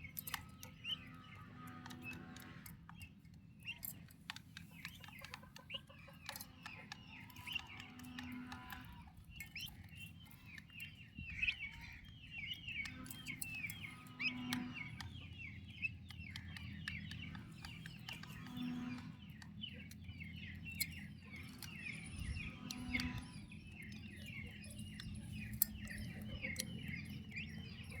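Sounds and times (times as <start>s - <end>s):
turkey chicks peeping: 0.0s - 28.0s.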